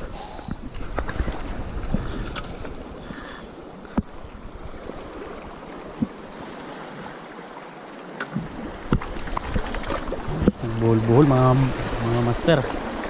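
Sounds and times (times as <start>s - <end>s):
waves washing among rocks: 0.0s - 13.0s.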